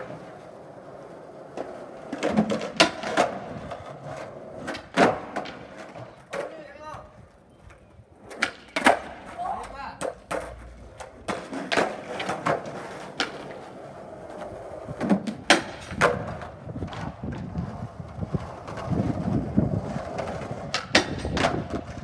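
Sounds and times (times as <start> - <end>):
skateboard clacking on ground: 0.0 - 22.0
skateboard wheels rolling on concrete: 0.0 - 22.0.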